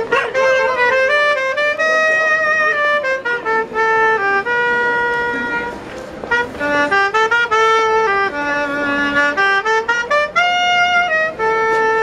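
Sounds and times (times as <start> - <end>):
clarinet solo: 0.0 - 12.0.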